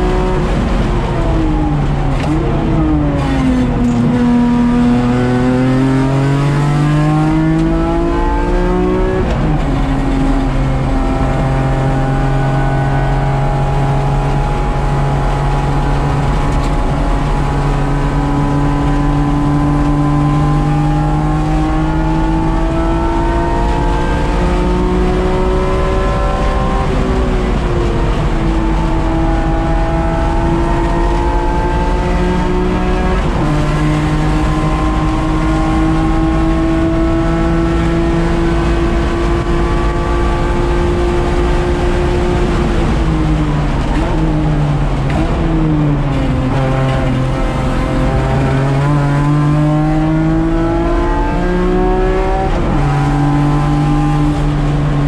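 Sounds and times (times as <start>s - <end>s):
race car engine: 0.0s - 55.0s
road and wind noise: 0.0s - 55.0s.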